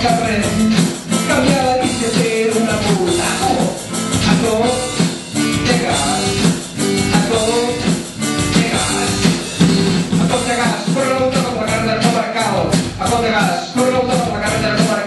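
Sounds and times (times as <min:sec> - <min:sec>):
electronic drum beat: 0:00.0 - 0:15.0
man singing: 0:00.0 - 0:15.0
strummed acoustic guitar: 0:00.0 - 0:15.0.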